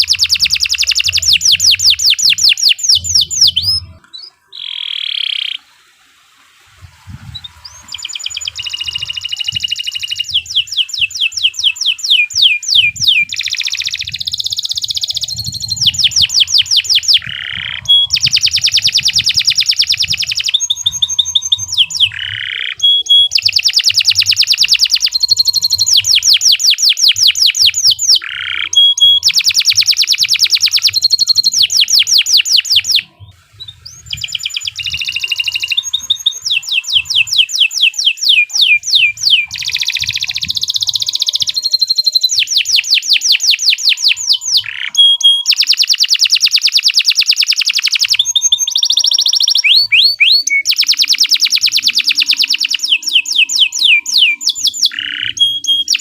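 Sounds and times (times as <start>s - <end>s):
canary singing trills: 0.0s - 5.7s, 7.3s - 56.0s.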